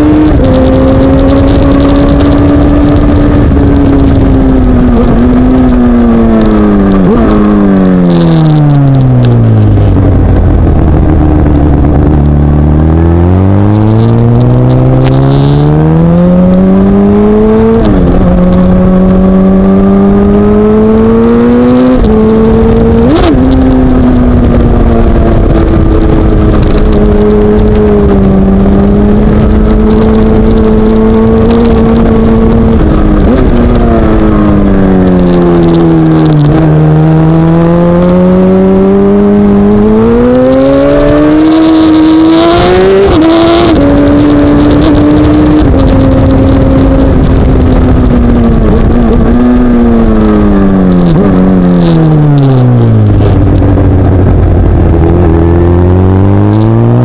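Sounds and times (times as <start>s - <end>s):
motorcycle engine revving: 0.0s - 57.0s
wind rush on microphone: 0.0s - 57.0s.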